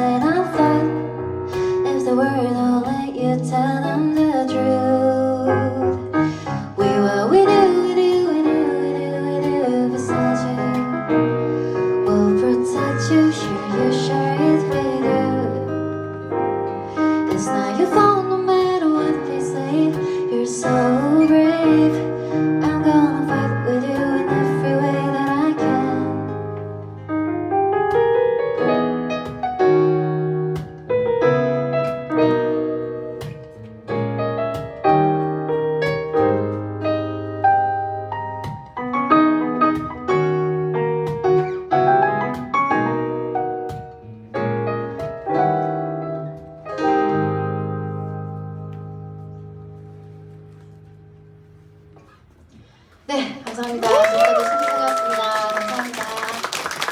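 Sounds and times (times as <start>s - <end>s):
piano chords: 0.0s - 53.1s.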